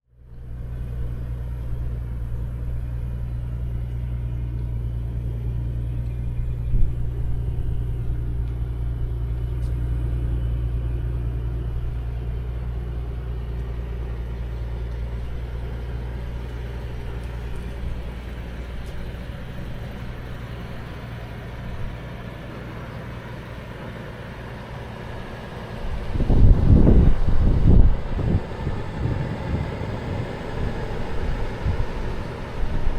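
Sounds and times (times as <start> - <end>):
car engine humming: 0.1 - 32.9.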